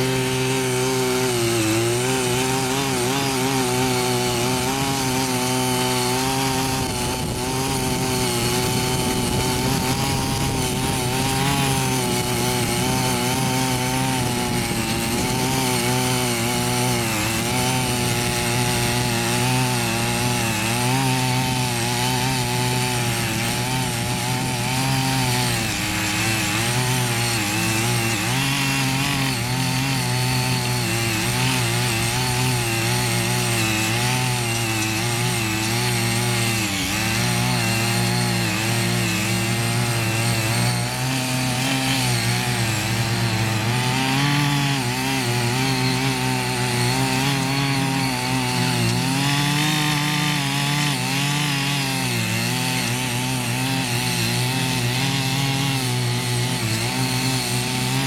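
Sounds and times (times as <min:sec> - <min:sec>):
power tiller engine running: 0:00.0 - 0:58.0.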